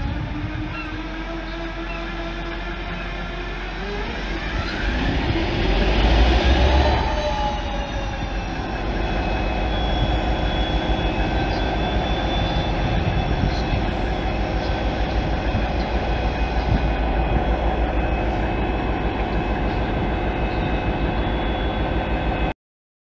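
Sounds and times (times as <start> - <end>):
diesel locomotive engine powering up: 0.0 - 22.6.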